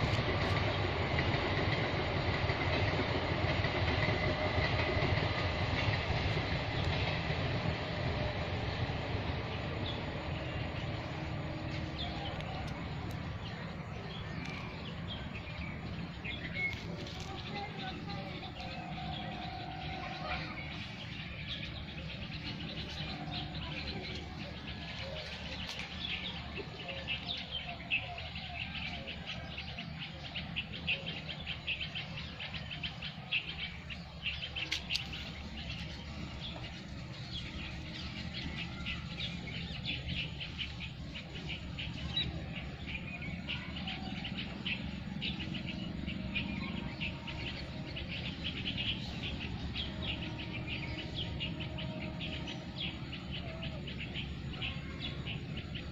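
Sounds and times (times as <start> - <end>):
birds chirping: 0.0 - 55.9
steady low hum: 0.0 - 55.9.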